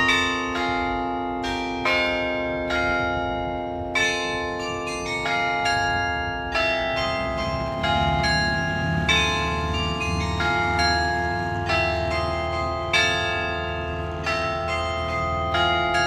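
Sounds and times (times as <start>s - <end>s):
carillon bells playing a slow tune: 0.0s - 16.0s.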